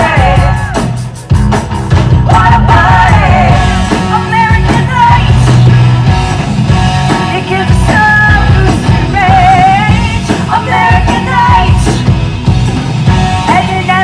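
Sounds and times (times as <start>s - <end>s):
rock song with singer and band: 0.0s - 14.0s.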